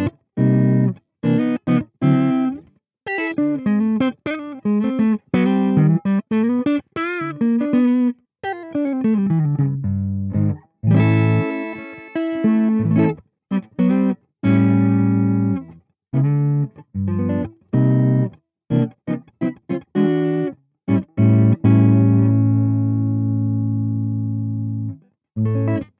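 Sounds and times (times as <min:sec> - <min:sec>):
electric guitar playing: 0:00.0 - 0:25.9.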